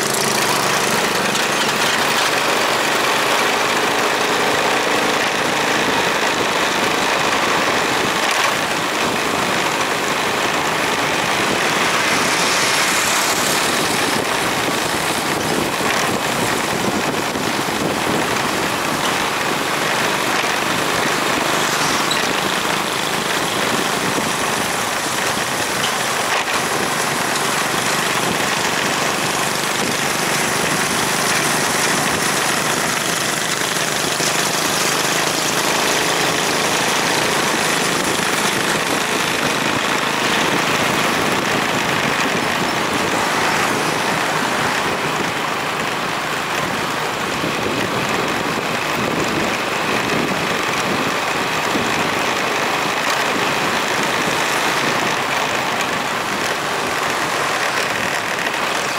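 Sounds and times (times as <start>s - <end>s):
motorbike engine running: 0.0s - 58.9s
wind and road noise: 0.0s - 58.9s.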